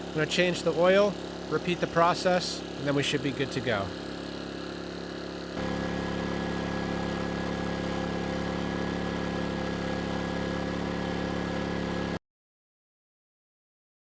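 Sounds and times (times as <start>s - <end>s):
generator engine running: 0.0s - 12.2s.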